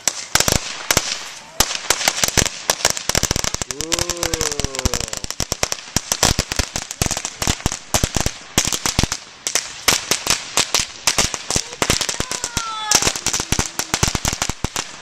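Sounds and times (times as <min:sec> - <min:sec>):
firework cracking and popping: 0:00.0 - 0:15.0.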